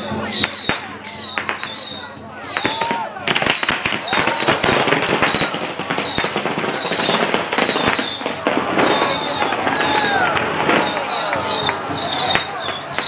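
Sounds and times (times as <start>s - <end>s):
crackle of firecrackers: 0.0s - 13.0s
falling firework whistles: 0.0s - 13.0s.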